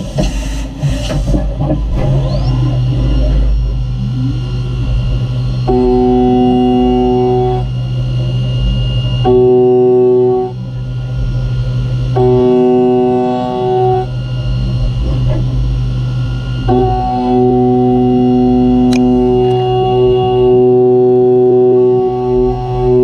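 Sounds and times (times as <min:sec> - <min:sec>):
mill spindle humming: 0:00.0 - 0:23.0
steady pitched cutting tone: 0:00.0 - 0:23.0.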